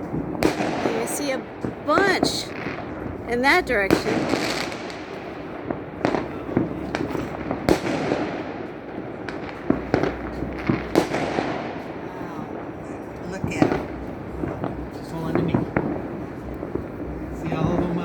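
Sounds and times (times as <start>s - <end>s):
fireworks bursting and crackling: 0.0s - 18.0s
sharp firework bangs: 0.0s - 18.0s.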